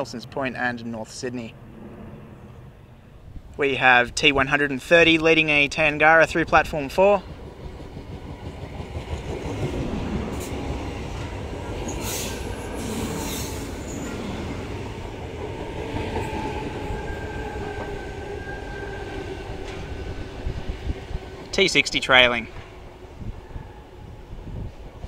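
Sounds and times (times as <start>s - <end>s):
train wheels rumbling on rails: 4.2s - 25.0s.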